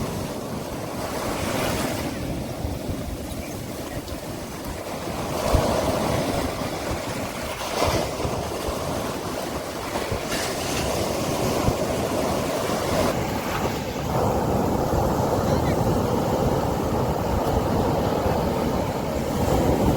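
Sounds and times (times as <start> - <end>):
sea waves washing on beach: 0.0 - 19.9.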